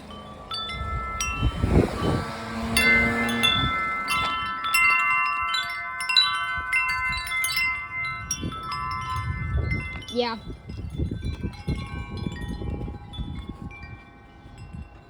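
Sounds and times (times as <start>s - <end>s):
metal wind chimes ringing: 0.0s - 15.0s
strong storm wind: 0.0s - 15.0s.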